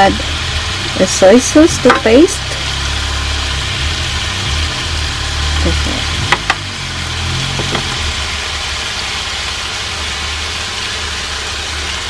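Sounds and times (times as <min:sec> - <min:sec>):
pork sizzling in a pan: 0:00.0 - 0:12.0.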